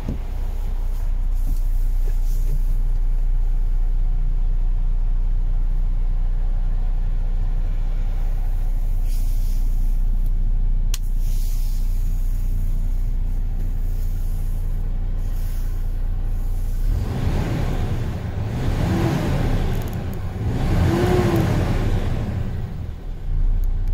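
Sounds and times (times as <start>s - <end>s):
diesel engine idling: 0.0s - 23.9s.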